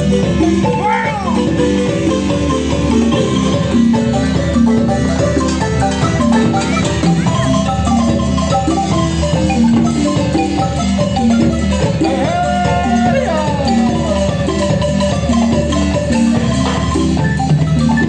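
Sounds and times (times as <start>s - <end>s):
marimba ensemble playing: 0.0s - 18.0s.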